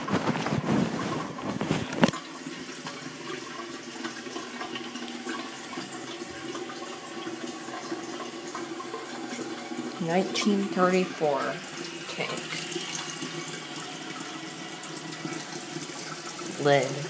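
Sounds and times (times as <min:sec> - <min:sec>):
toilet flushing water rushing: 0:00.0 - 0:17.0.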